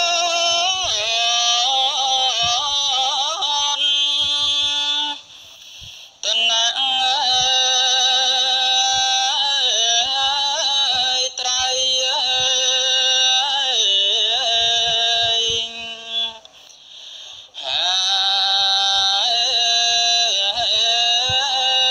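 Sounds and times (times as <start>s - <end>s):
person singing a devotional chant: 0.0s - 21.9s.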